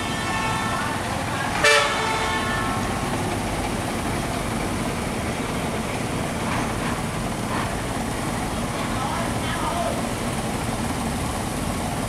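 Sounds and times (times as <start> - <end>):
boat engine running under load: 0.0 - 12.0.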